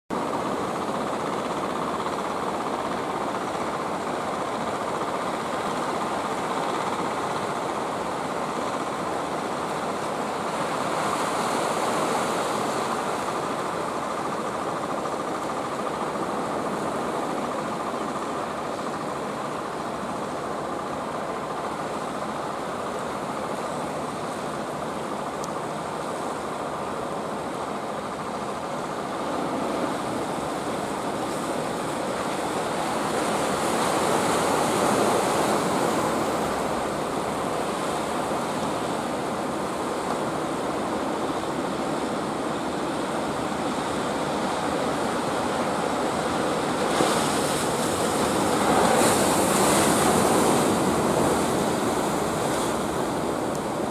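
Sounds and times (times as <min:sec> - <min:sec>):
sea surf and wash: 0:00.1 - 0:53.9.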